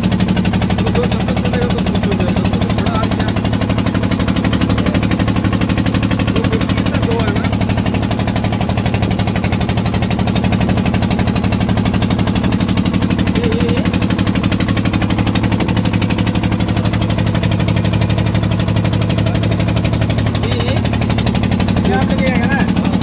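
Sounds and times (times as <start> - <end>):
boat diesel engine chugging: 0.0 - 23.0.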